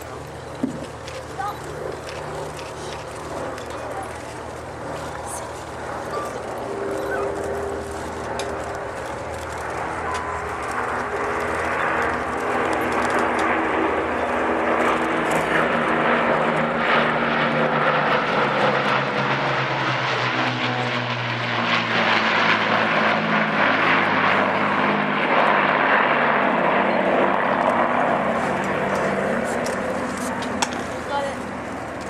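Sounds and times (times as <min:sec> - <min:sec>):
propeller planes droning past: 0:00.0 - 0:32.0.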